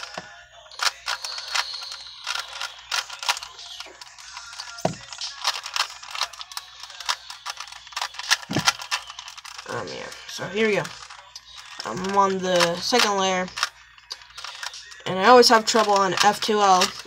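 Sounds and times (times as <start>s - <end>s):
puzzle cube plastic clicks: 0.8s - 9.8s, 10.4s - 17.0s.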